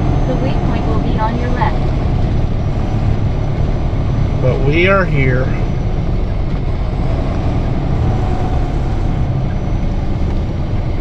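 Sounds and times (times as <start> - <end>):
diesel truck engine running: 0.0 - 11.0
road noise: 0.0 - 11.0.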